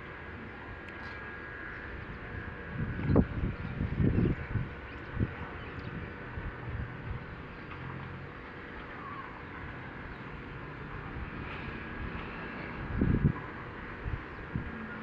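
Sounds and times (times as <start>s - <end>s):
wind through trees: 0.0s - 15.0s.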